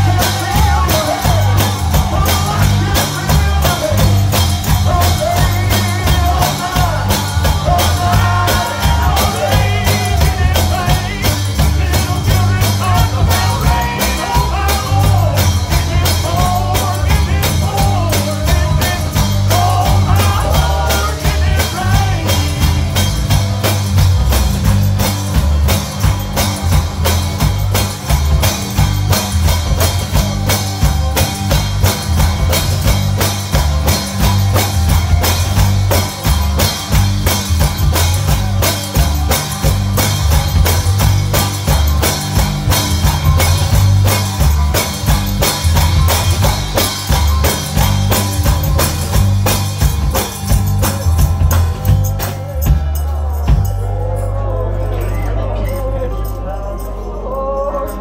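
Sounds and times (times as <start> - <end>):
live gospel band: 0.0 - 58.0.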